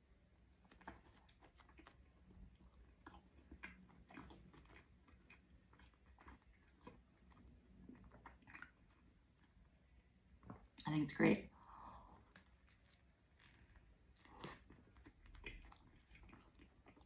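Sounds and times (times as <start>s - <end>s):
mouth clicks and soft crunches: 0.1s - 10.9s, 11.6s - 17.0s
person chewing: 0.2s - 10.8s, 11.6s - 17.0s.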